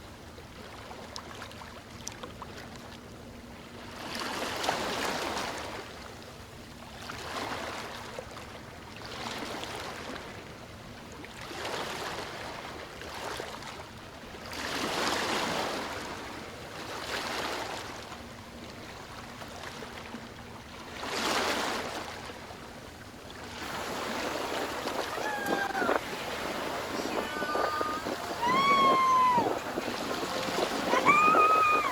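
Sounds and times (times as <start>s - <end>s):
small waves washing on a beach: 0.0s - 31.9s.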